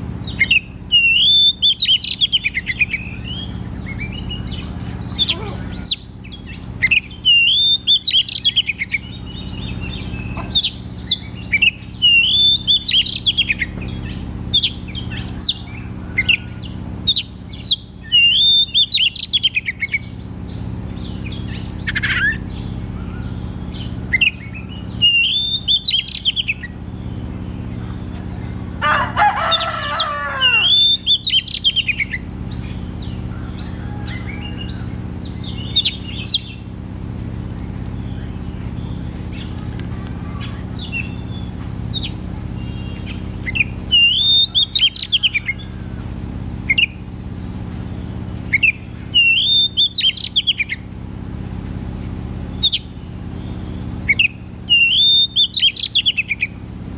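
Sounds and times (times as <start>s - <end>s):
steady low hum: 0.0s - 56.9s
songbird singing warbled whistles: 0.2s - 28.6s, 30.4s - 36.7s, 40.5s - 45.8s, 46.6s - 47.1s, 48.0s - 50.9s, 52.4s - 56.6s.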